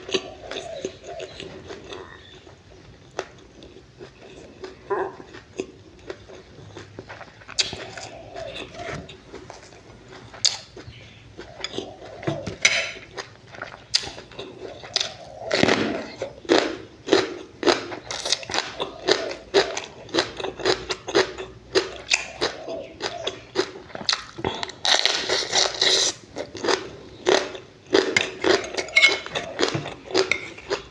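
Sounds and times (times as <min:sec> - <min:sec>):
chewing and lip smacking: 0:00.0 - 0:30.9.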